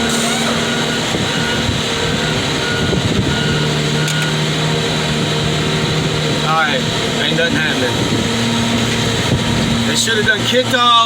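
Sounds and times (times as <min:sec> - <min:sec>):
car crusher engine running: 0:00.0 - 0:11.0.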